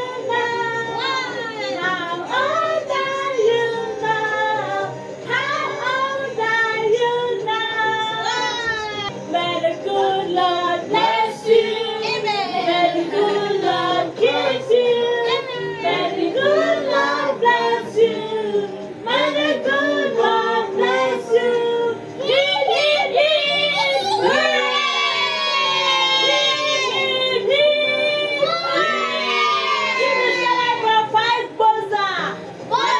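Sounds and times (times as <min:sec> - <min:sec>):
high-pitched singing over music: 0:00.0 - 0:32.9.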